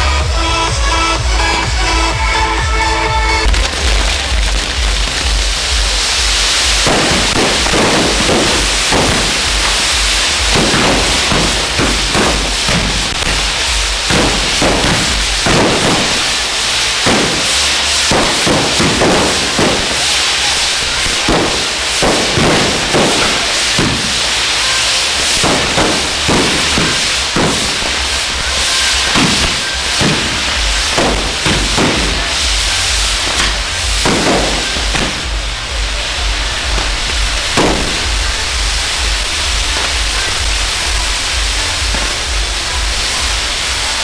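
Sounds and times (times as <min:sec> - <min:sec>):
fireworks bangs and cracks: 0:00.0 - 0:44.0
fireworks hissing: 0:00.0 - 0:44.0.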